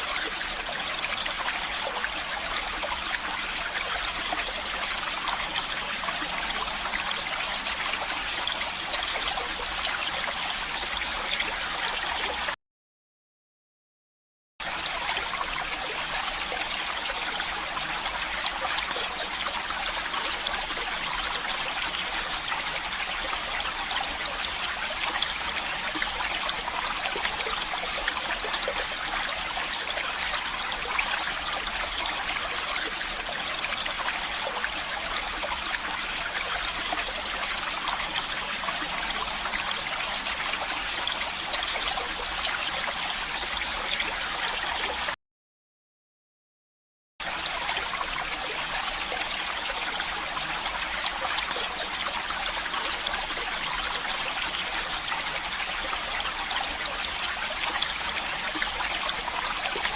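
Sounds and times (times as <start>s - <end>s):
stream water trickling: 0.0s - 12.6s, 14.6s - 45.2s, 47.2s - 59.9s.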